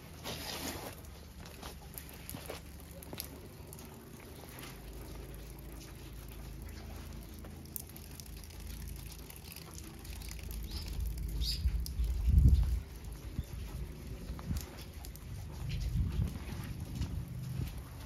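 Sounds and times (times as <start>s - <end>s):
low rumble on microphone: 0.4s - 18.0s.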